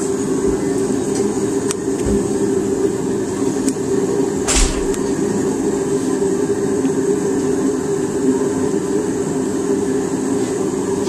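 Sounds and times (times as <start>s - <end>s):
forge burner roaring: 0.0s - 11.0s.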